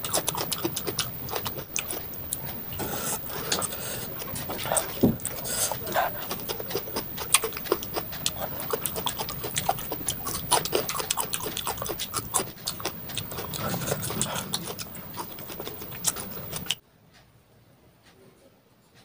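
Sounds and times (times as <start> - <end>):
wet crunching chewing: 0.0 - 16.8.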